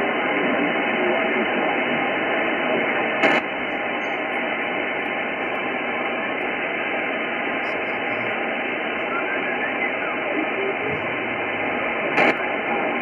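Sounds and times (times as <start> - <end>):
loud radio crackle: 0.0 - 13.0
radio receiver hiss: 0.0 - 13.0.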